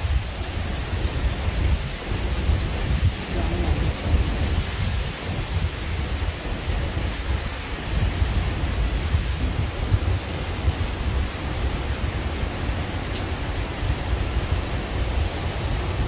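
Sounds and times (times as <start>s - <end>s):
low thunder rumble: 0.0s - 16.0s
rain hissing: 0.0s - 16.0s.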